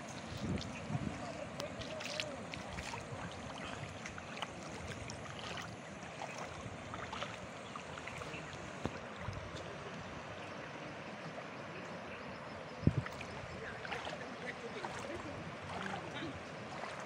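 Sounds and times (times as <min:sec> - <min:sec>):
river rushing in flood: 0:00.0 - 0:17.0.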